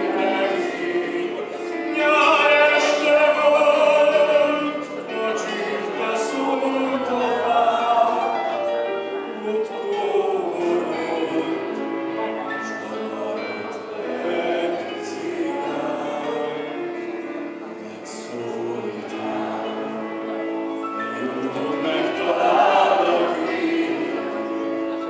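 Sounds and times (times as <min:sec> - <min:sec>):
man singing into microphone: 0:00.0 - 0:20.1, 0:21.0 - 0:25.0.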